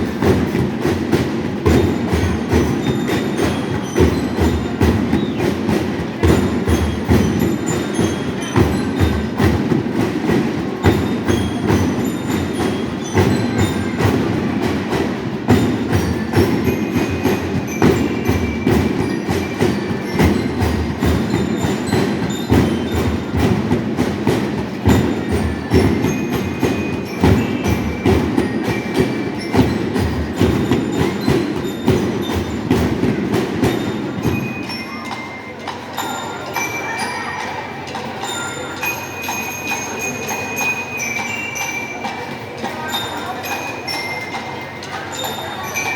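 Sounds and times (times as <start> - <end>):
fast marching drums: 0.0 - 45.9
high bell-lyre notes: 0.0 - 45.9.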